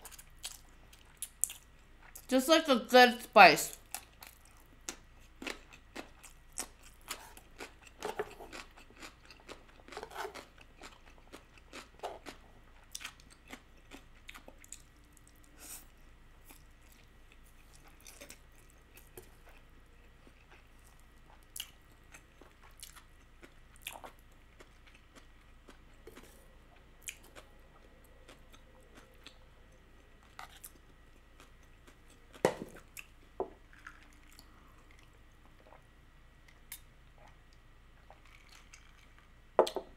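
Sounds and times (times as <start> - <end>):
person chewing and slurping noodles: 3.9 - 35.9.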